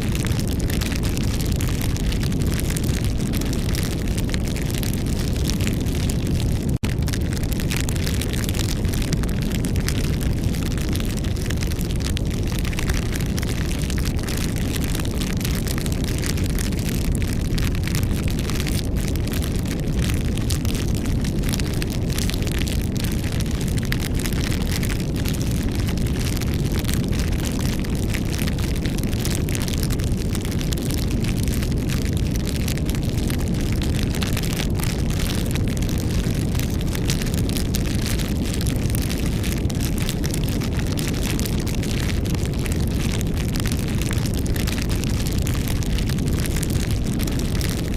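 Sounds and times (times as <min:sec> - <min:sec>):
fire crackling and popping: 0:00.0 - 0:47.9
rush of flames: 0:00.0 - 0:47.9.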